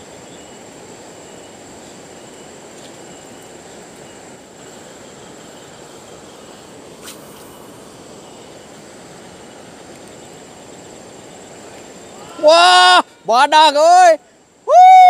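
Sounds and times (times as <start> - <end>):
river water rushing: 0.0 - 14.7
faint high whine: 0.0 - 15.0.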